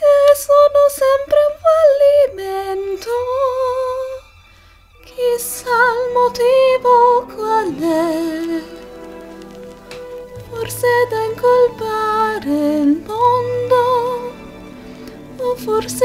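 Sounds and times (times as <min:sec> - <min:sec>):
woman singing with vibrato: 0:00.0 - 0:04.3, 0:05.0 - 0:16.0
soft accompaniment: 0:00.0 - 0:16.0.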